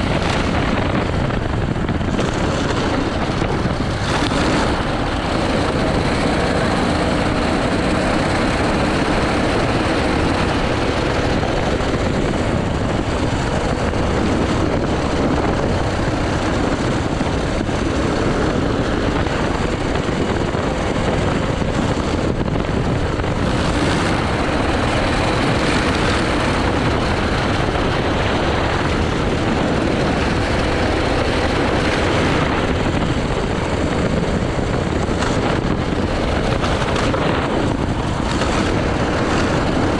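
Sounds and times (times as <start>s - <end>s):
go-kart engine running flat out: 0.0s - 39.9s
rushing noise: 0.0s - 39.9s.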